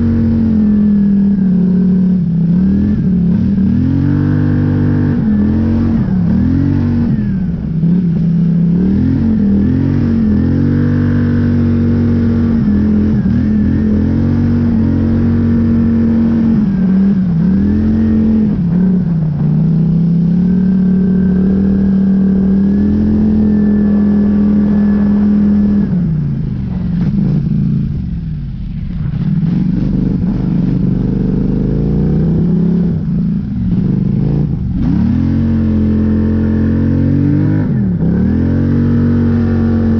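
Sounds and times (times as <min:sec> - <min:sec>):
atv engine revving: 0:00.0 - 0:28.2, 0:28.8 - 0:39.9.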